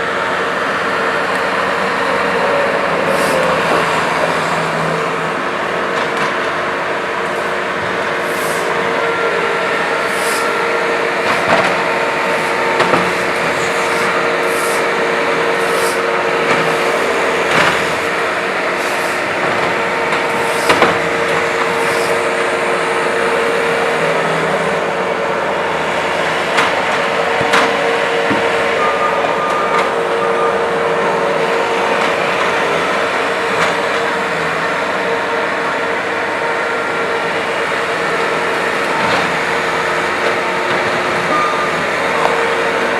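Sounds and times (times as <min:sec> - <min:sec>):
skid steer loader engine drone: 0:00.0 - 0:42.9.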